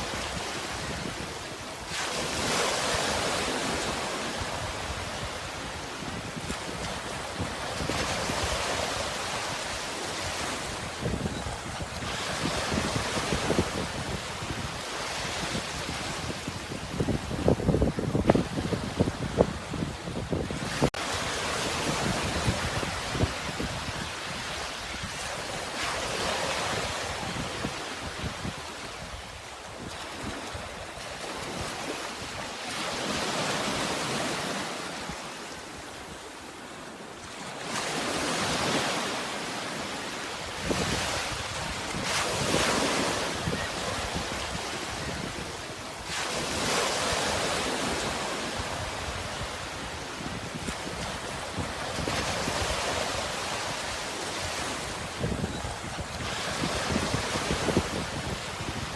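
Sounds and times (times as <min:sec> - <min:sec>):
sea waves washing ashore: 0:00.0 - 0:58.9.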